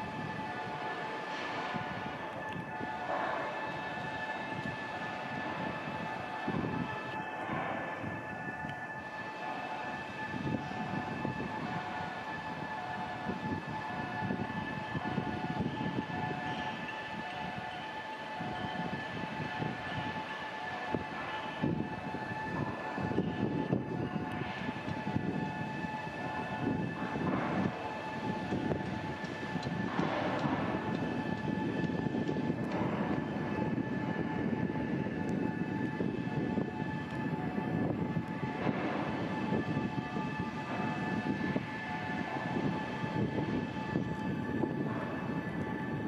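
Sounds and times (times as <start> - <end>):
machinery high whine: 0.0 - 46.0
machinery low rumble: 0.0 - 46.0.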